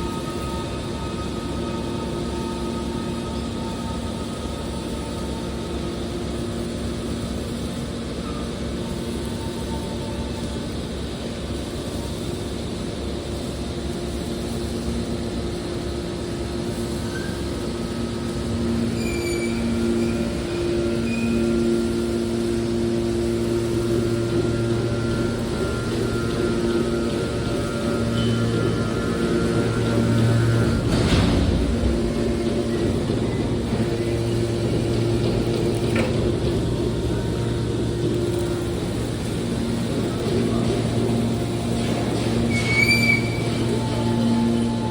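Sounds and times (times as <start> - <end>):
hydraulic machine hum: 0.0 - 44.9.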